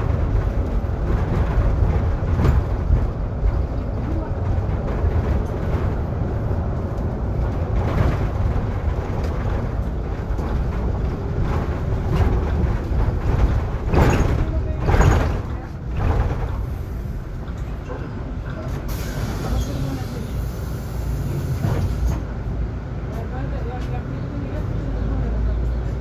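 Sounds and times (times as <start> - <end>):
bus cabin rumble: 0.0 - 26.0.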